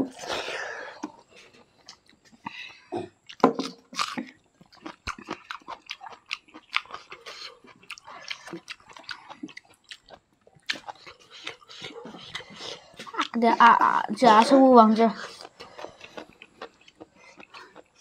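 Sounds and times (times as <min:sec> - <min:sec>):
chewing and lip smacking: 0:00.0 - 0:18.0.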